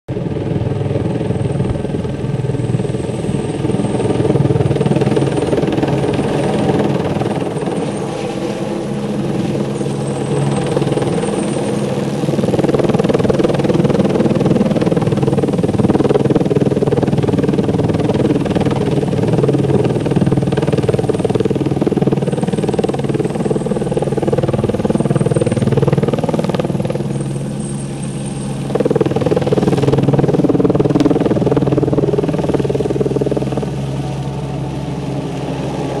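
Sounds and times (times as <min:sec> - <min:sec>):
helicopter hovering: 0:00.1 - 0:36.0.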